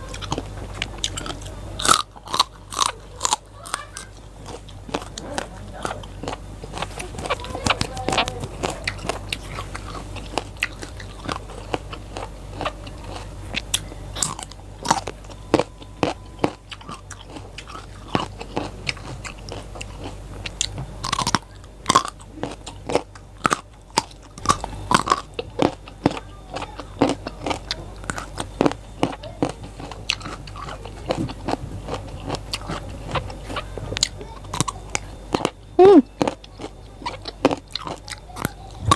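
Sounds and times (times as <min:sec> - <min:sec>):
crunchy vegetables being chewed: 0:00.0 - 0:38.9.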